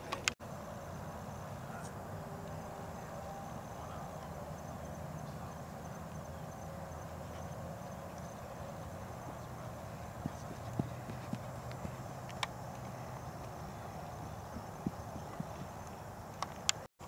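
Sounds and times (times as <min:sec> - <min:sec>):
outdoor background hiss: 0:00.0 - 0:16.9.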